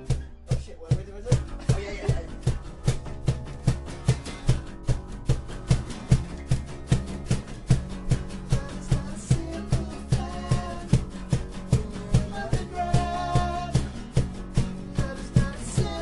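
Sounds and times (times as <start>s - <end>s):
acoustic guitar: 0.0s - 16.0s
bass guitar: 0.0s - 16.0s
steady beat: 0.0s - 16.0s.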